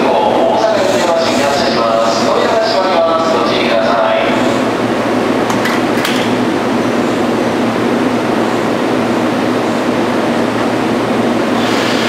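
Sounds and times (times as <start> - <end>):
train equipment running steadily: 0.0 - 12.0.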